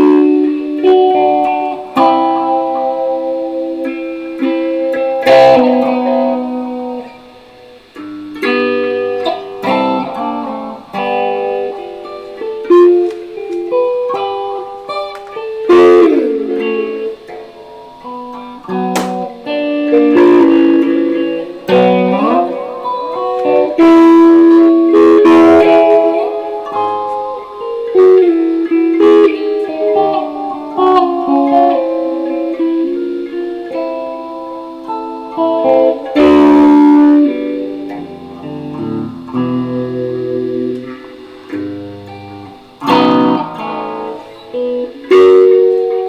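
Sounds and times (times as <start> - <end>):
electric guitar playing: 0.0 - 46.0.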